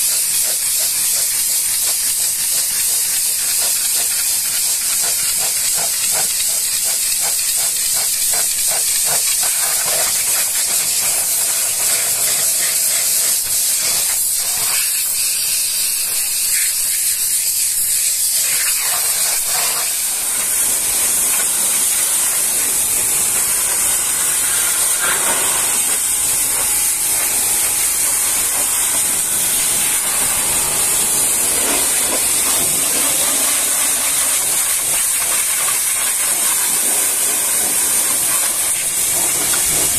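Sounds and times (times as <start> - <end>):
pressure washer jet hissing: 0.0 - 39.9
water spray spattering: 0.0 - 39.9.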